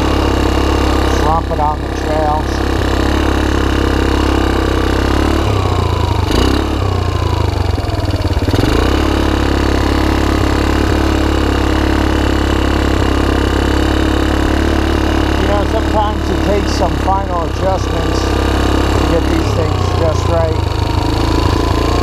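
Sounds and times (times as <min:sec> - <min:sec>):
atv engine running: 0:00.0 - 0:22.0
engine knock: 0:00.0 - 0:22.0.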